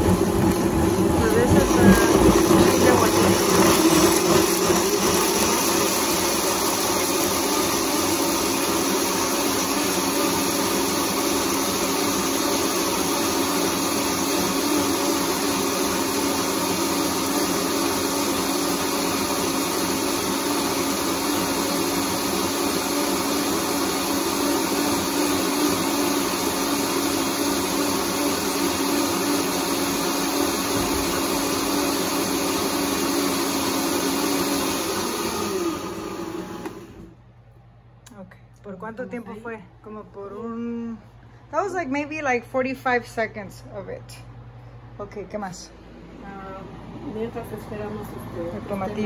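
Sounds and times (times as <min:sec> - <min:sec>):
blender whirring: 0:00.0 - 0:37.2, 0:46.1 - 0:49.0.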